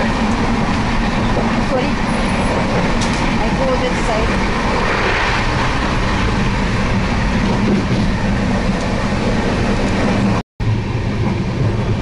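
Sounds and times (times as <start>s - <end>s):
train wheels rumble and rattle: 0.0s - 12.0s.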